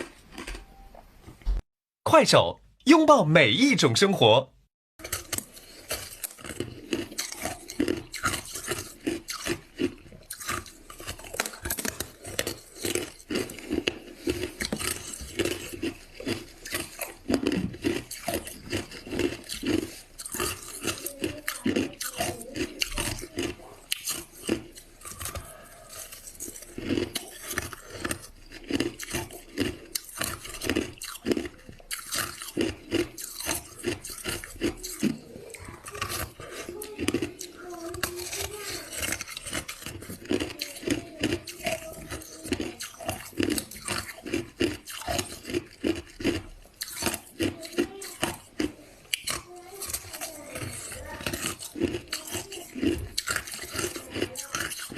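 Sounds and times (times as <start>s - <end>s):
ice being chewed crunching: 0.0s - 0.9s, 5.0s - 54.9s.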